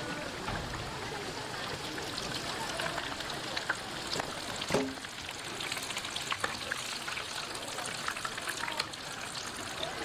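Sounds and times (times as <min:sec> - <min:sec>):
food sizzling in hot oil: 0:00.4 - 0:10.0.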